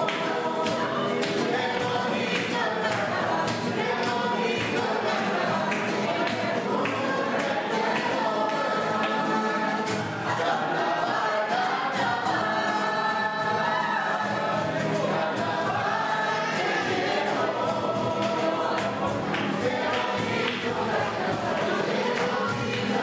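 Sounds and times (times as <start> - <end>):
group of voices singing: 0.0 - 23.0.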